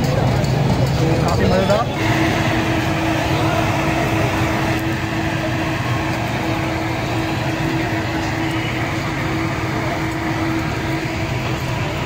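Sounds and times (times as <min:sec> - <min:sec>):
busy street din: 0:00.0 - 0:12.0
electric fan humming: 0:01.9 - 0:12.0.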